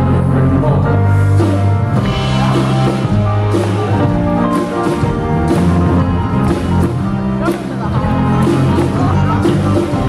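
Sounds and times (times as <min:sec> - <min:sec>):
live rock band playing: 0:00.0 - 0:10.0.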